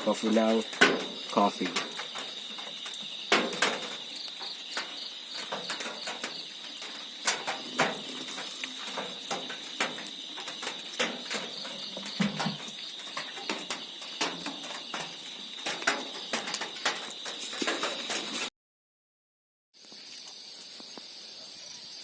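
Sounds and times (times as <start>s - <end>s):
crickets trilling: 0.0s - 18.5s, 19.8s - 22.0s
irregular clicks and knocks: 0.3s - 18.4s.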